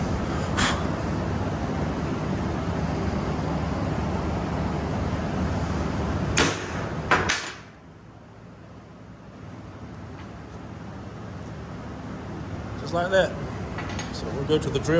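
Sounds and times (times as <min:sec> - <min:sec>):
low shop hum: 0:00.0 - 0:14.9.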